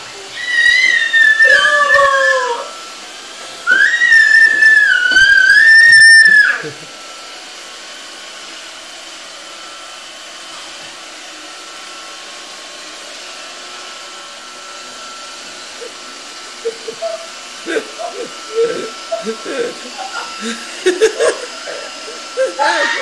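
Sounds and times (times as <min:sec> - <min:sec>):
robot vacuum whirring hum: 0:00.0 - 0:23.0.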